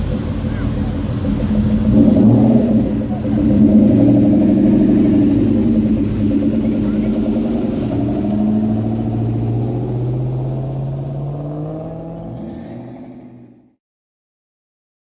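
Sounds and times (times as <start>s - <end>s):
car engine pulling away: 0.0s - 13.8s.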